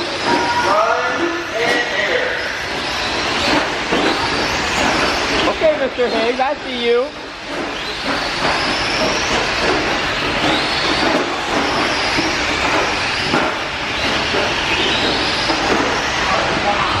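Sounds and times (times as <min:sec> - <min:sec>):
electric motors whining: 0:00.0 - 0:17.0
tyres rushing on dirt: 0:00.0 - 0:17.0.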